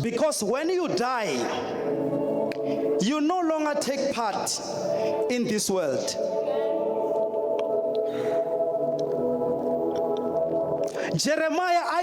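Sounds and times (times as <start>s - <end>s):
soft sustained chords: 1.2s - 11.2s.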